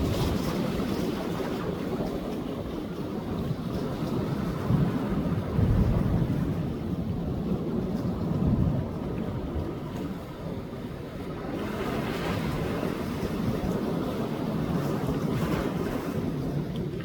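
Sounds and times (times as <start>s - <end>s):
sea waves breaking: 0.0s - 17.0s
wind rumbling on microphone: 0.0s - 17.0s.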